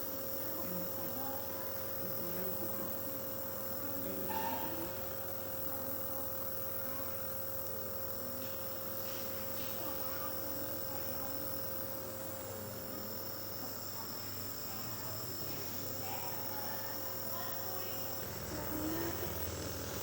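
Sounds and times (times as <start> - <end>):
nebulizer humming: 2.0 - 20.0.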